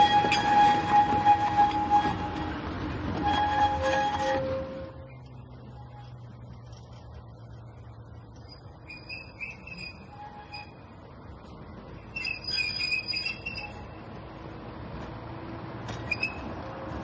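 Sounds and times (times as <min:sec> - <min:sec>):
diesel railcar engine rumble: 0:00.0 - 0:17.0.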